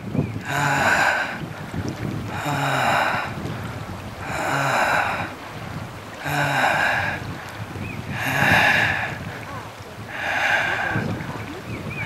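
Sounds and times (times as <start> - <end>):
heavy labored breathing: 0.4 - 1.5, 2.2 - 11.3.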